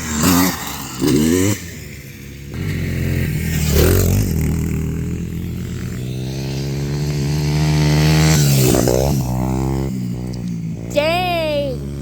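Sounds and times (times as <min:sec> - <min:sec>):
dirt bike engine passing by: 0:00.0 - 0:12.0.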